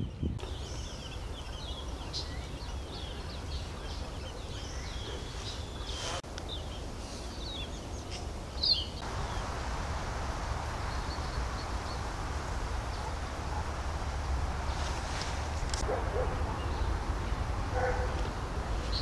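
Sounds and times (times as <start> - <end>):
small birds chirping: 0.0 - 19.0
steady low rumble: 0.2 - 19.0
steady hiss: 0.4 - 19.0.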